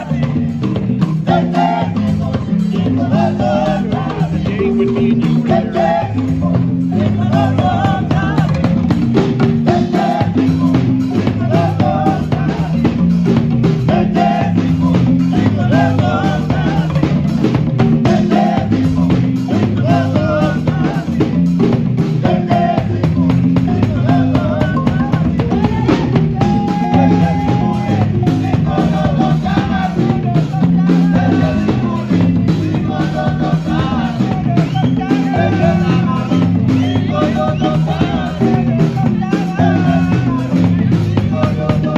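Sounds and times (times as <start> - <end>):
drums keeping the beat: 0.0 - 41.9
marimba ensemble playing: 0.0 - 41.9.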